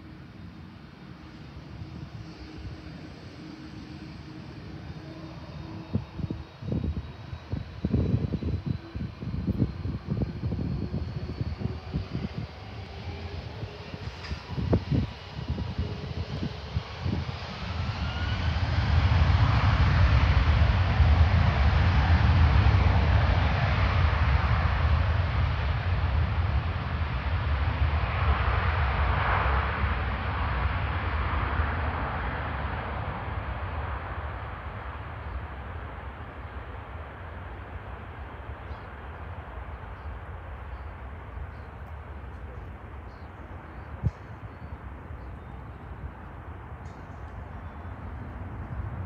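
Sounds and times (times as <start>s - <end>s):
jet engines spooling up: 0.0s - 40.7s
distant airliner rumble: 0.0s - 49.0s.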